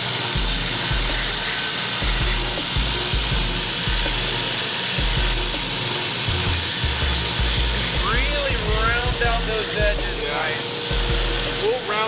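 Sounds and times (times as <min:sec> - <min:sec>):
belt grinder sanding: 0:00.0 - 0:12.0
motor hum: 0:00.0 - 0:12.0.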